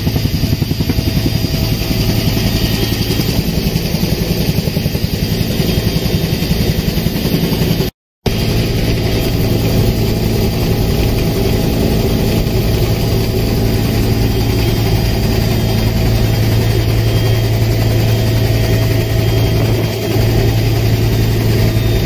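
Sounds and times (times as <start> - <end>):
helicopter engine and rotors: 0.0 - 22.0.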